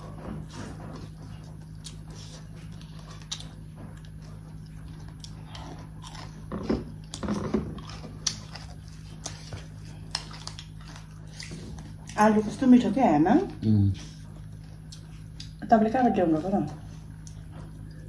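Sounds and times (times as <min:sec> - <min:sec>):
chewing and lip smacking: 0:00.0 - 0:12.5, 0:13.5 - 0:15.6, 0:16.7 - 0:18.0.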